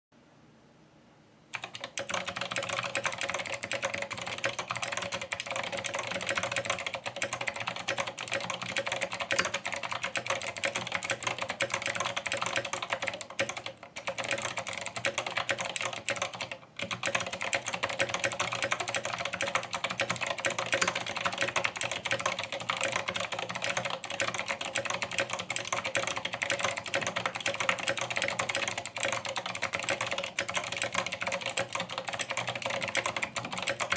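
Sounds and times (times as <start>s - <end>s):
fast mechanical keyboard typing: 1.6s - 33.9s.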